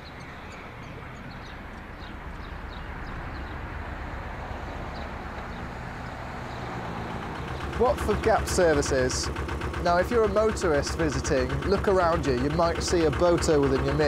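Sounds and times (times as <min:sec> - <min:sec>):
motorway traffic rumble: 0:00.0 - 0:14.0
small birds chirping: 0:00.0 - 0:14.0.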